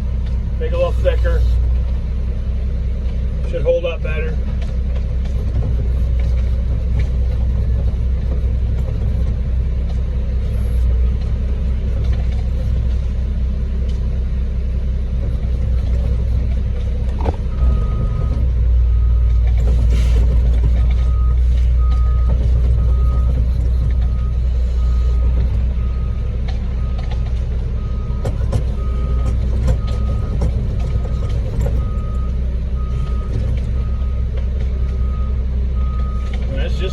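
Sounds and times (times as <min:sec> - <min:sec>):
diesel engine rumble: 0:00.0 - 0:36.9.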